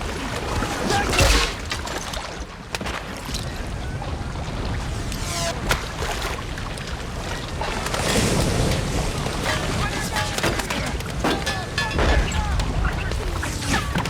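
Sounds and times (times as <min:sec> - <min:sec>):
rumble of surf and engines: 0:00.0 - 0:14.0.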